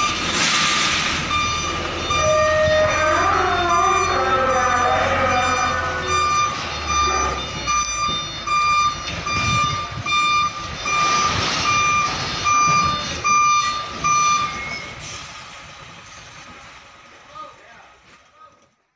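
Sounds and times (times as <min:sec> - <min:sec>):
truck reversing alarm beeping: 0:00.0 - 0:16.3
diesel engine running: 0:00.0 - 0:17.3.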